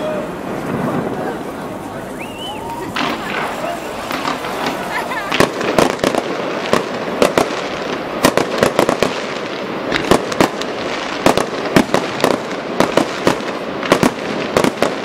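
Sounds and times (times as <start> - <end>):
continuous noisy background: 0.0 - 15.0
fireworks bursting with sharp bangs: 0.0 - 15.0.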